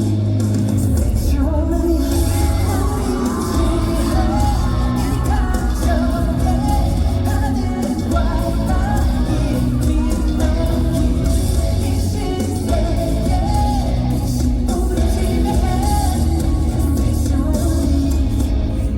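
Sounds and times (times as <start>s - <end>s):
backing track with heavy bass beat: 0.0s - 18.9s
man singing: 0.8s - 18.9s.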